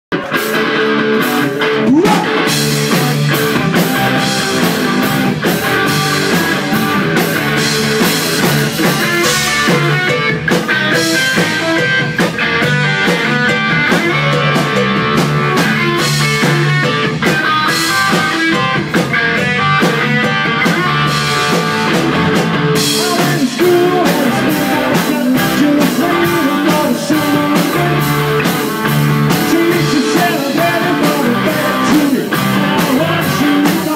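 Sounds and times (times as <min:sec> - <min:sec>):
drum kit beat: 0:00.1 - 0:33.9
electric guitars: 0:00.1 - 0:33.9.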